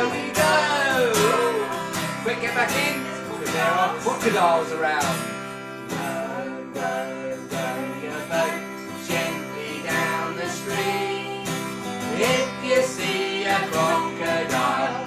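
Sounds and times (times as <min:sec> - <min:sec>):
man and woman singing: 0:00.0 - 0:05.3, 0:05.9 - 0:15.0
acoustic guitar strumming: 0:00.0 - 0:15.0.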